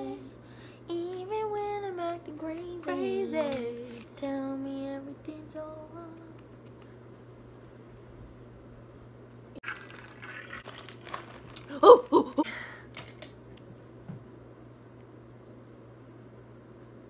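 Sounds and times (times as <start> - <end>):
steady low hum: 0.0 - 9.6, 11.6 - 17.0.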